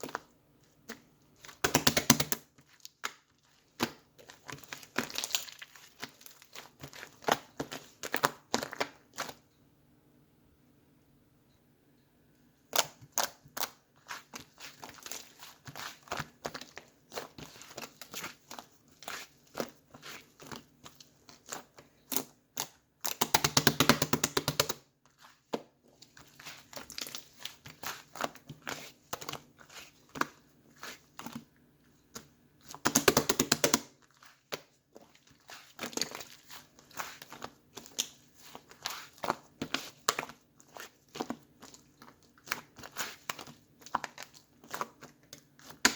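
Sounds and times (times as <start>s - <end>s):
slime squished by hand: 0.0s - 9.4s, 12.7s - 45.9s.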